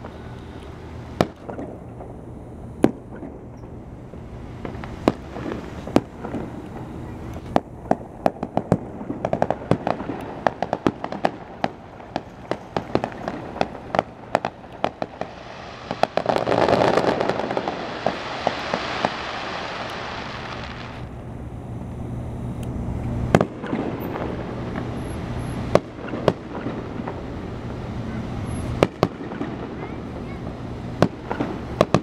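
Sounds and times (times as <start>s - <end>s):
loud fireworks booms: 0.0s - 21.3s, 23.2s - 32.0s
fireworks bangs and crackles: 0.0s - 21.4s, 22.0s - 32.0s
dense rushing noise: 0.0s - 32.0s.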